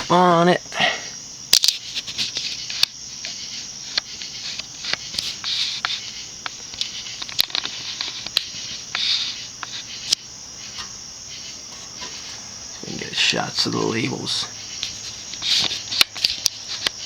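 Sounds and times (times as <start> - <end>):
steady high-pitched hiss: 0.0 - 17.0.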